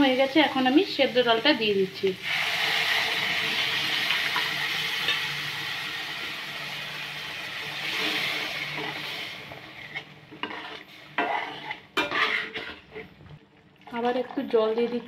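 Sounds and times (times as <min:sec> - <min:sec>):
dal sizzling in a pan: 0:00.0 - 0:13.2.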